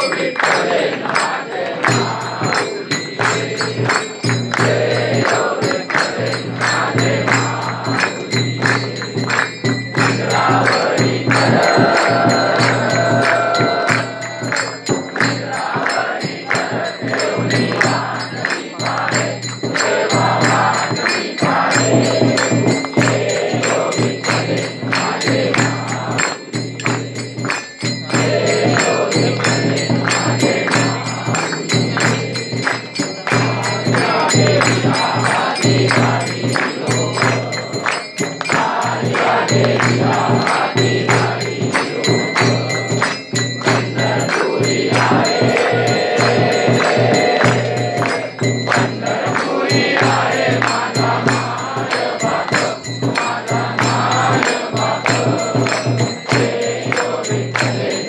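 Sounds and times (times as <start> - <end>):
crowd singing devotional song: 0.0 - 58.0
hand claps: 0.0 - 58.0
jingling percussion: 0.0 - 58.0.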